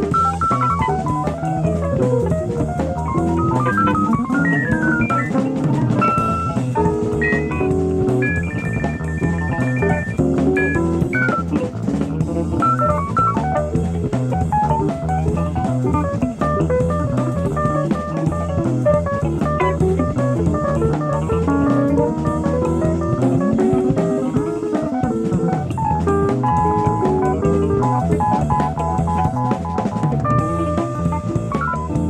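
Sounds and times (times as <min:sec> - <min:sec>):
bass: 0:00.0 - 0:32.0
drum kit: 0:00.0 - 0:32.0
jazz guitar lines: 0:00.0 - 0:32.0.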